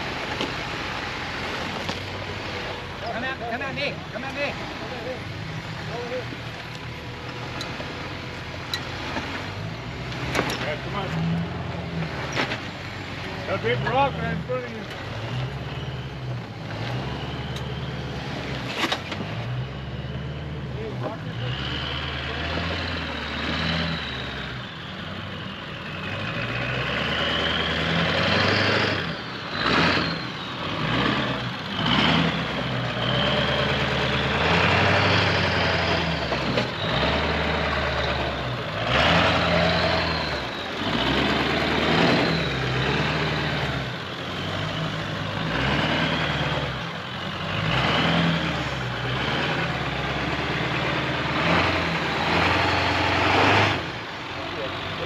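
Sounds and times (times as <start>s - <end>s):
truck engine running at low revs: 0.0s - 55.0s.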